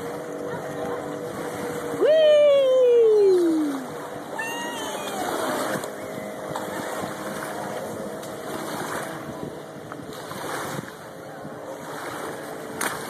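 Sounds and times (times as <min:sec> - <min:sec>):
distant jet ski engine: 0:00.0 - 0:13.0
wind and water hiss: 0:00.0 - 0:13.0.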